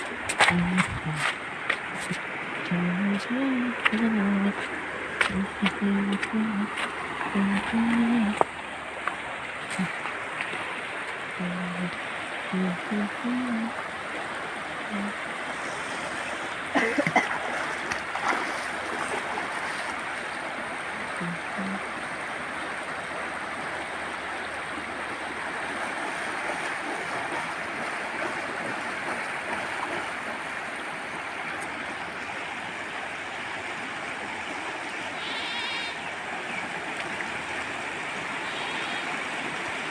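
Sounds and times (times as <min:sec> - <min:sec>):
floodwater rushing: 0:00.0 - 0:39.9
water splashes: 0:00.0 - 0:39.9.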